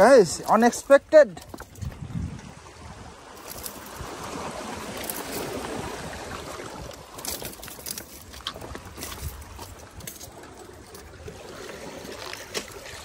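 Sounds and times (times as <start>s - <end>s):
seawater washing among boulders: 0.0s - 13.0s.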